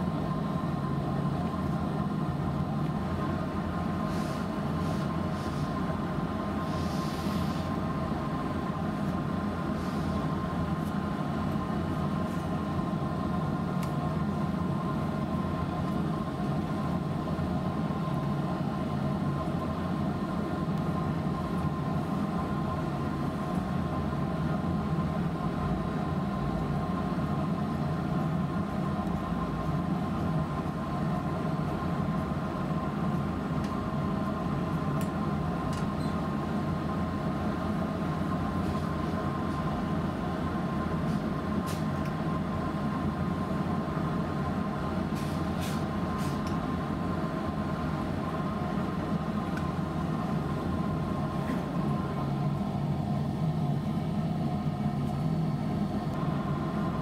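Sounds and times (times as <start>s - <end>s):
machine hum with low rumble: 0.0s - 57.0s.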